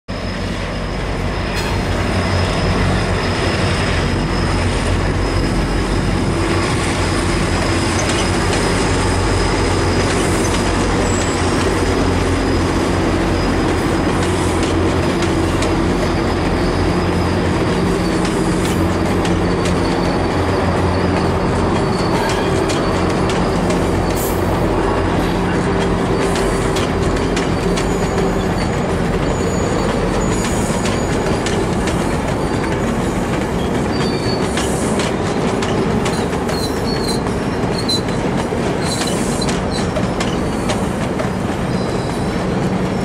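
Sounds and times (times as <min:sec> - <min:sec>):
diesel locomotive engine drone: 0:00.1 - 0:43.0
high wheel squeal: 0:00.1 - 0:43.0
train wheels clicking over rail joints: 0:00.2 - 0:43.0.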